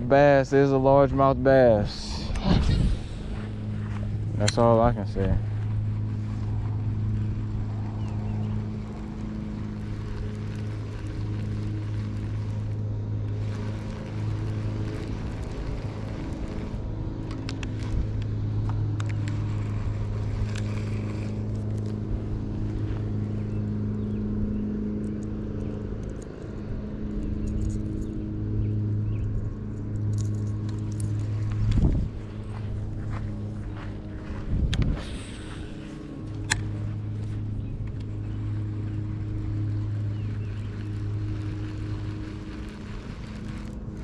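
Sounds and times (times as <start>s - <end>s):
low mechanical hum: 0.0s - 44.0s
faint clicks and rustles: 2.3s - 23.9s, 29.2s - 44.0s.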